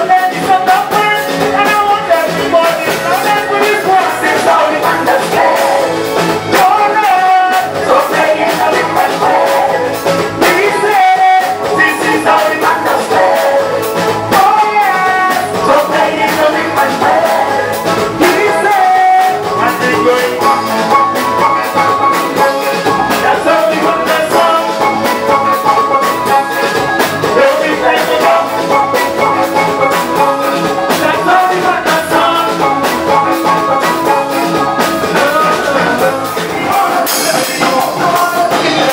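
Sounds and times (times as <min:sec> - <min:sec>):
live soca band playing: 0:00.0 - 0:38.9.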